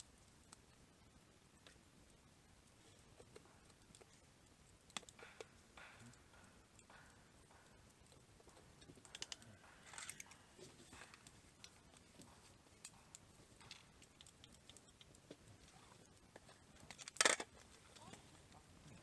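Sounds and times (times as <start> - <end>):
faint clicks and rustles: 1.6 - 19.0.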